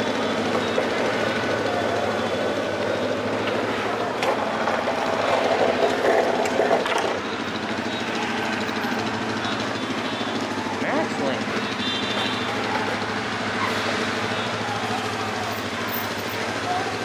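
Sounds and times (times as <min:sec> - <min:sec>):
city traffic passing: 0:00.0 - 0:17.0.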